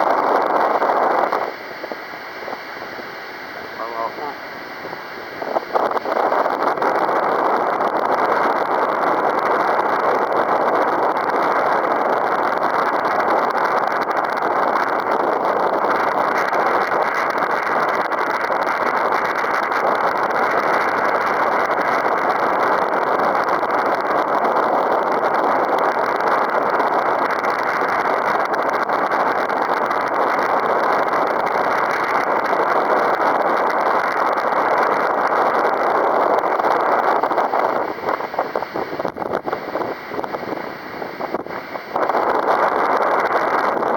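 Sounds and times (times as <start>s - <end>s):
strong wind on microphone: 0.0s - 43.9s.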